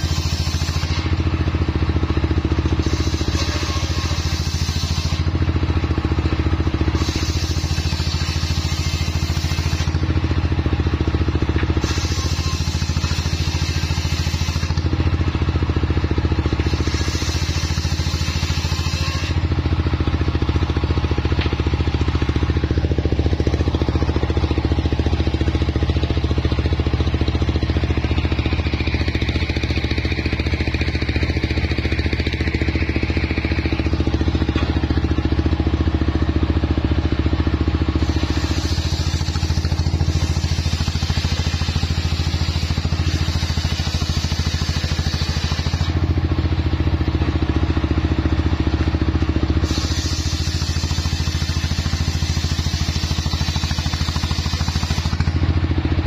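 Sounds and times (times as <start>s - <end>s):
circular saw cutting wood: 0.0s - 35.6s, 37.4s - 46.1s, 49.6s - 55.4s
stationary engine running: 0.0s - 56.0s.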